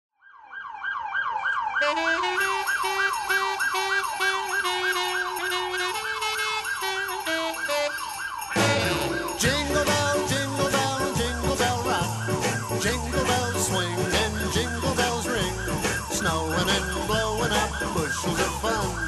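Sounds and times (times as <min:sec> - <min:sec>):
emergency siren yelping: 0:00.2 - 0:19.0
sleigh bells jingling: 0:02.2 - 0:19.0.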